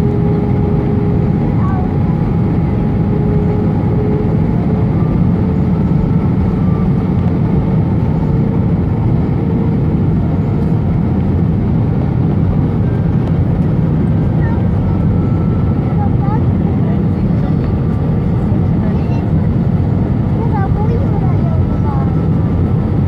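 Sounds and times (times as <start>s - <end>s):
aircraft cabin engine rumble: 0.0s - 23.0s.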